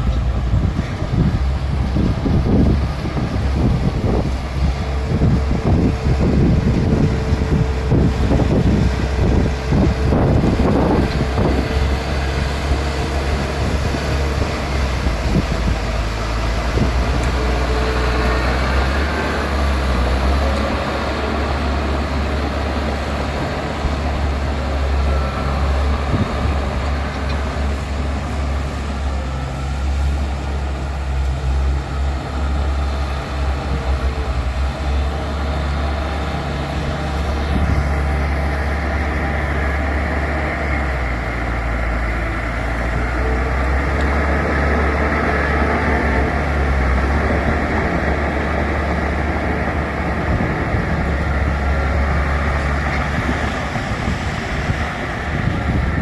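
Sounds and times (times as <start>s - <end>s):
bulldozer engine droning: 0.0s - 56.0s.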